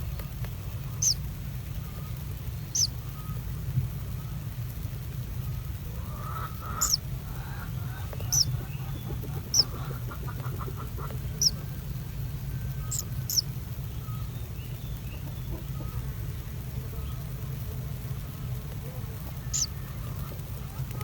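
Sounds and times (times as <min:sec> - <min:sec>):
small bird chirping: 0:00.0 - 0:04.6, 0:05.4 - 0:21.0
steady low hum: 0:00.0 - 0:21.0.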